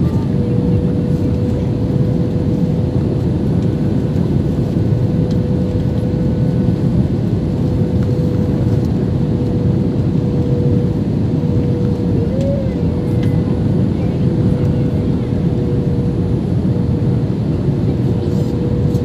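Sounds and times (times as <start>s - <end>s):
jet airliner cabin roar: 0.0s - 19.0s.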